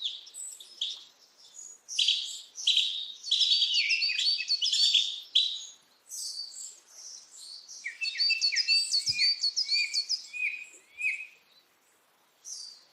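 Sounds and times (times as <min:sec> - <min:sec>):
small bird chirping: 0:00.0 - 0:11.7, 0:12.4 - 0:12.9.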